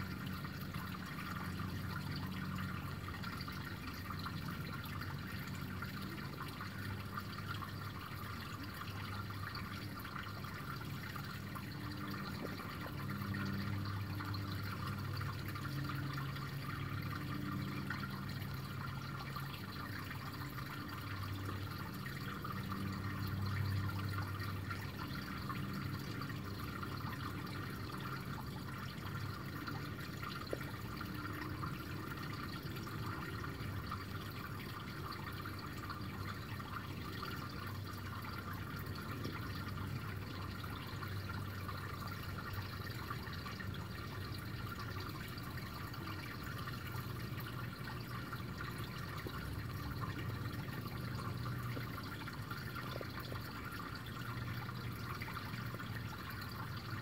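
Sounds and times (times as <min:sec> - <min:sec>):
brook water trickling over stones: 0:00.0 - 0:57.0.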